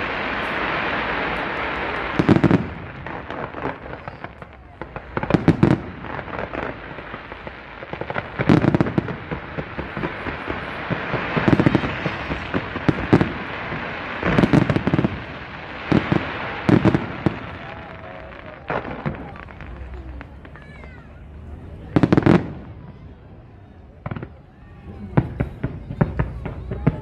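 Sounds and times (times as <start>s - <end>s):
fireworks bangs: 0.0s - 27.0s
fireworks crackle and hiss: 0.0s - 27.0s.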